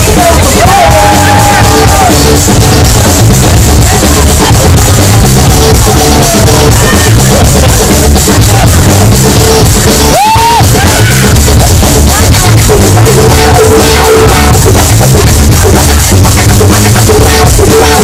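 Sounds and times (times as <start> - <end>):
loud music with heavy drum beat: 0.0 - 18.0.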